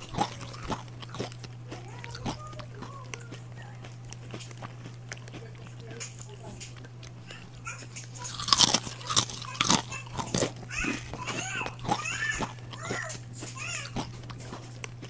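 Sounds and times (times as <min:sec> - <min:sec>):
dry noodle block crackling: 0:00.0 - 0:15.0
dry noodles crunching when chewed: 0:00.0 - 0:15.0.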